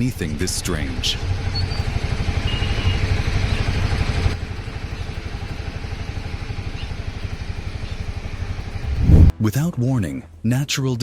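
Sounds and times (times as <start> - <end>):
motor running with low pulsing: 0.0 - 9.3.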